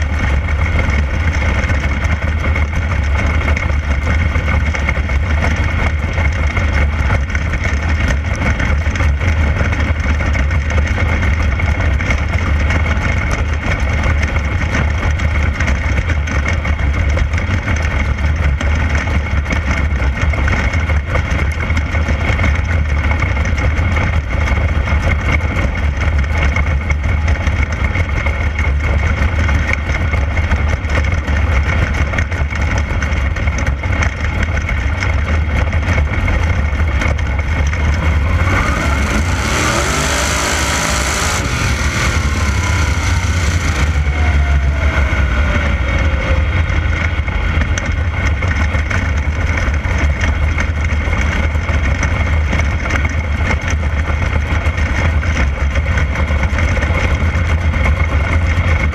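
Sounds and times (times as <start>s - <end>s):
race car engine rumbling: 0.0s - 58.9s.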